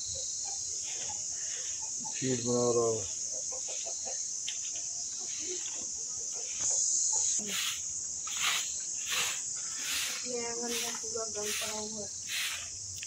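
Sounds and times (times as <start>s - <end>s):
high-pitched insect chirring: 0.0s - 13.0s
broom sweeping dirt: 0.8s - 13.0s.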